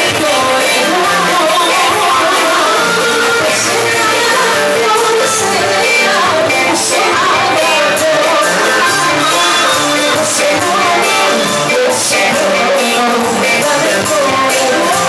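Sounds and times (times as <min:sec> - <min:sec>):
band accompaniment with guitar: 0:00.0 - 0:15.0
woman singing: 0:00.0 - 0:15.0.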